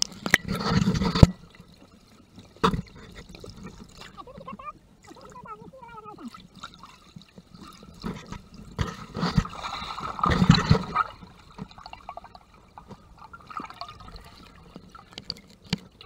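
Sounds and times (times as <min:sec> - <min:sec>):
muffled underwater sloshing: 0:00.0 - 0:16.0
water splashing: 0:00.0 - 0:16.0.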